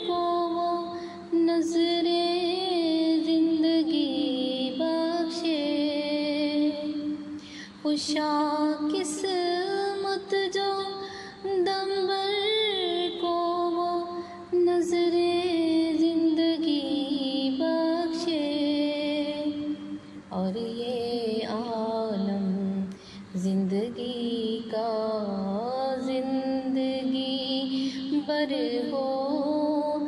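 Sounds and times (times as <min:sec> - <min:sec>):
woman singing unaccompanied: 0:00.0 - 0:30.0.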